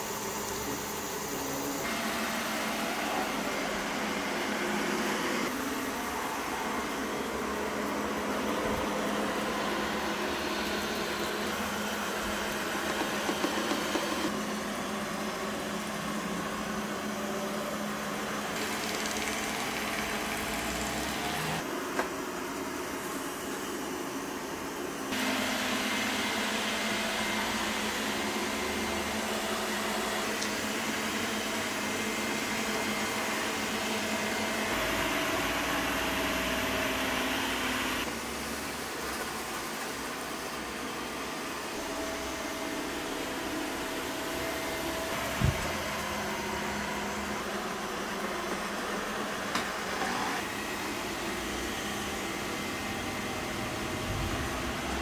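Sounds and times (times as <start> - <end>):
robot vacuum humming: 0.0 - 55.0.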